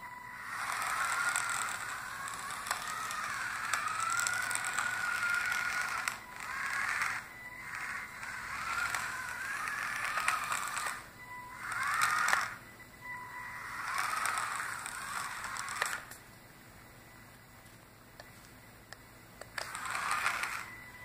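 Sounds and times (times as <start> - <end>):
gear motors whining: 0.0 - 21.0.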